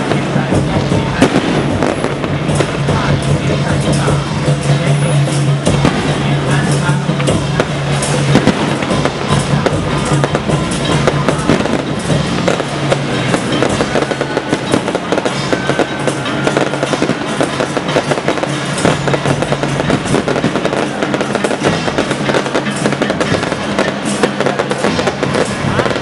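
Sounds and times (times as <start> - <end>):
fireworks and firecrackers banging: 0.0 - 26.0.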